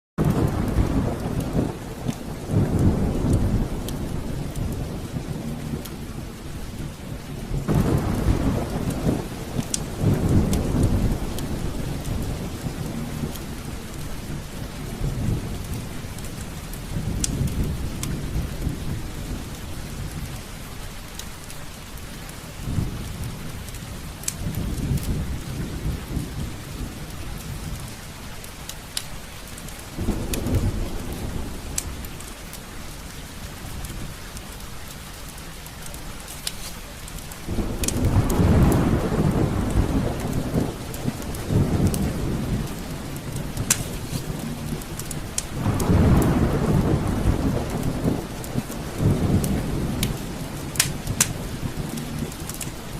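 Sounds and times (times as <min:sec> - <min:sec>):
thunder rumbling: 0:00.2 - 0:28.5, 0:29.6 - 0:34.3, 0:37.4 - 0:52.9
fireplace fire crackling: 0:00.2 - 0:52.9
heavy rain falling: 0:00.2 - 0:52.9.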